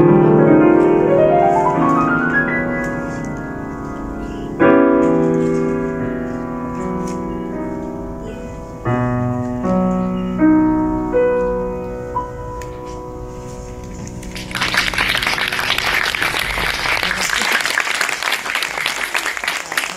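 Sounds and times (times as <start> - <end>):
solo grand piano: 0.0 - 18.6.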